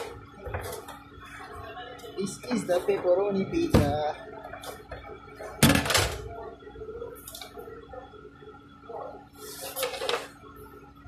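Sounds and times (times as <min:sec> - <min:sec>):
kitchen equipment hum: 0:00.0 - 0:11.0.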